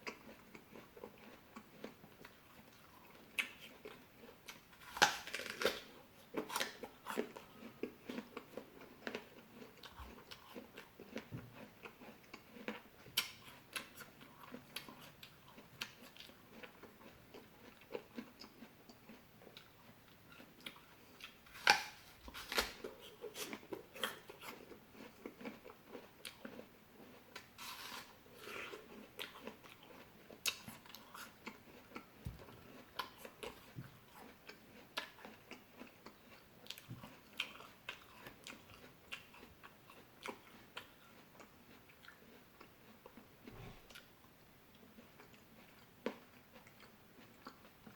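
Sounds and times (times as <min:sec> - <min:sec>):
chewing and biting fruit: 0:00.0 - 0:44.1, 0:44.7 - 0:47.9.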